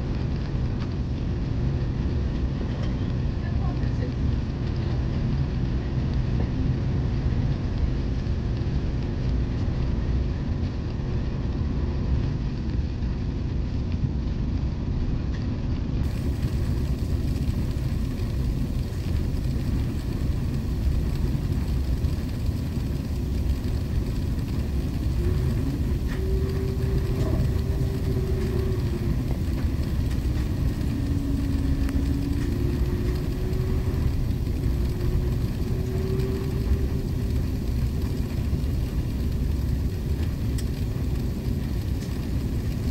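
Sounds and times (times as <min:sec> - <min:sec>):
jet engine cabin rumble: 0:00.0 - 0:42.9.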